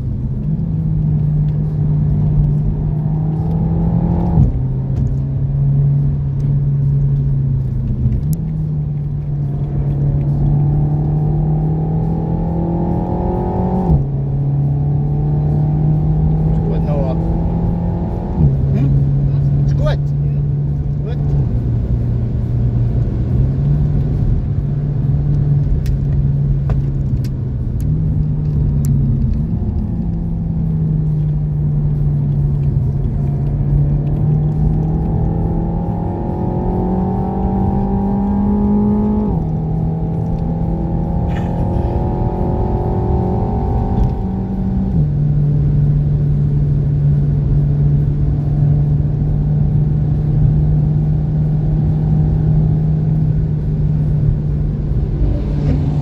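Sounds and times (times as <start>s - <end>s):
tyre and road rumble: 0.0s - 45.5s, 50.8s - 56.0s
car engine under load: 0.0s - 56.0s.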